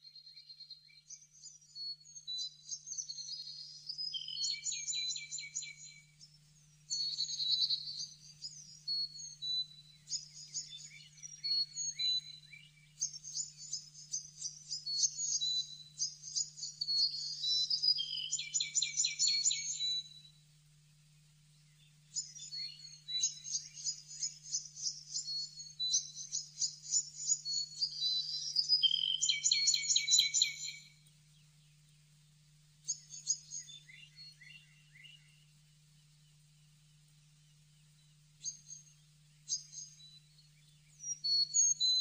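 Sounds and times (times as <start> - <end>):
faint low hum: 0.0 - 42.0
songbird singing: 0.0 - 42.0.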